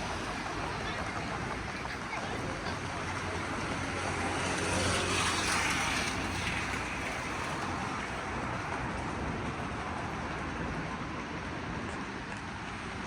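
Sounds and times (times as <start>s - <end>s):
vehicle tyre noise passing: 0.0s - 13.0s.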